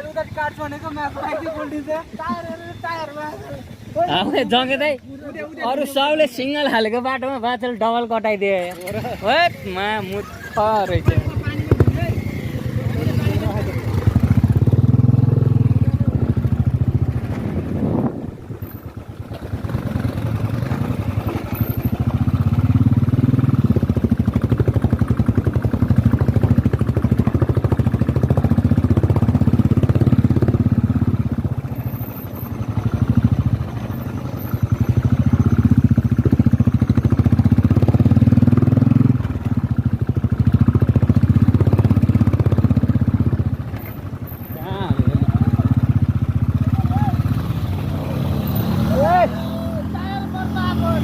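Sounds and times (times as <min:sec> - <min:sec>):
motorcycle engine revving: 0:08.6 - 0:51.0.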